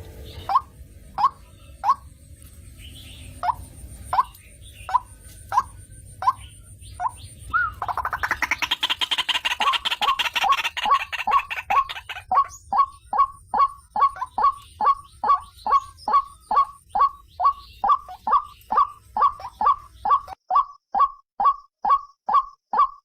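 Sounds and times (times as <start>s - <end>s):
waterhen calling: 0.0s - 2.1s, 3.3s - 23.0s.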